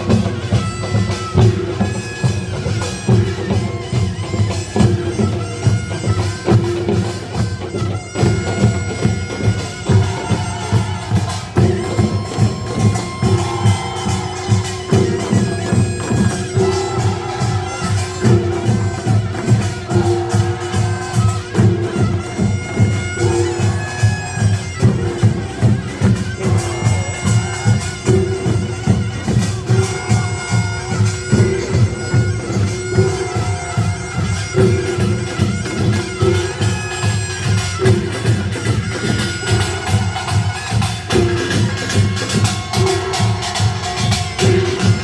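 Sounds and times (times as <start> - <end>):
drums and gongs pulse: 0.0 - 45.0
shawm playing wavering melody: 0.0 - 45.0.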